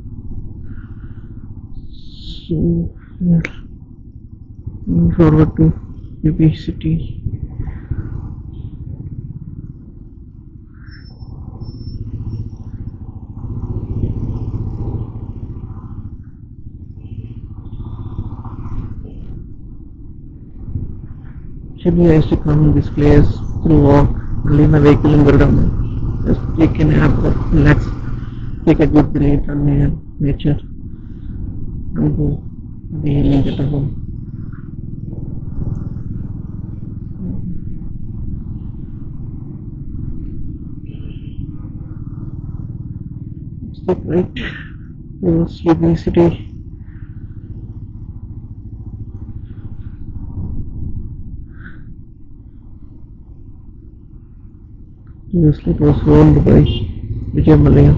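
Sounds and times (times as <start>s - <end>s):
faint street traffic: 0.0s - 57.9s
motorcycle engine running: 0.0s - 57.9s.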